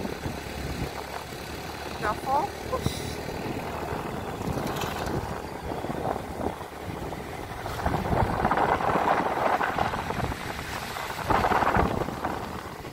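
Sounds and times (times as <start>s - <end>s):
vehicle engine running: 0.0s - 12.9s
wind buffeting microphone: 0.0s - 12.9s.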